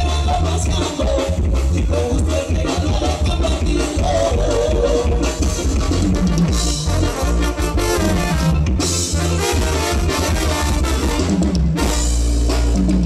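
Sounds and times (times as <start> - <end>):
brass: 0.0 - 13.0
drum kit: 0.0 - 13.0
heavy bass: 0.0 - 13.0
instrumental band music: 0.0 - 13.0.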